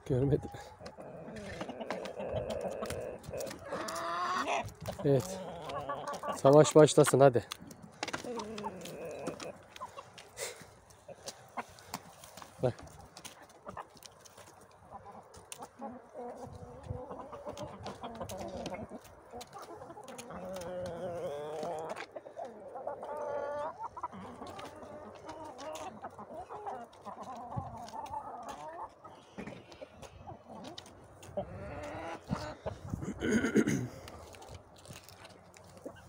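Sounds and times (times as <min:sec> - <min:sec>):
chickens clucking and squawking: 0:00.0 - 0:36.0.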